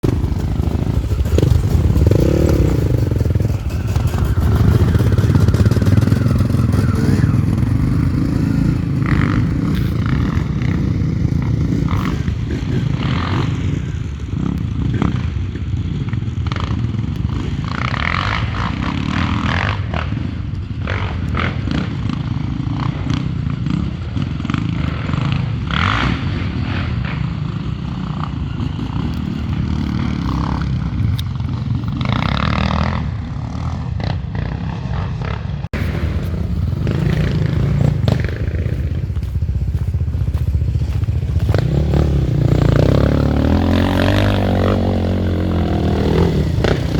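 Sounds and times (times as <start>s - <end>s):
motorcycle engines running: 0.0s - 46.9s.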